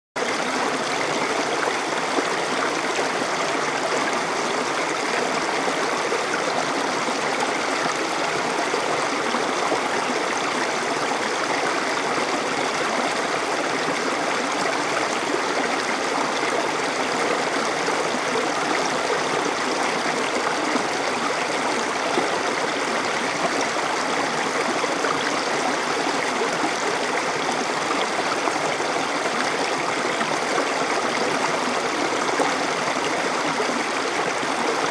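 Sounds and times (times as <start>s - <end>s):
stream burbling over rocks: 0.2s - 34.9s.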